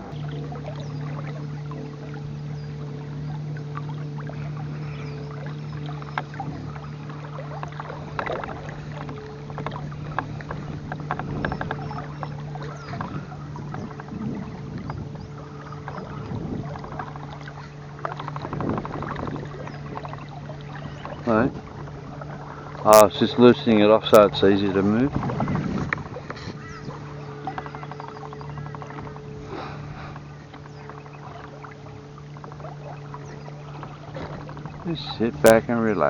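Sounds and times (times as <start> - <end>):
boat motor humming: 0.0 - 36.0
water lapping: 0.0 - 36.0
gear knocking against hull: 4.9 - 36.0.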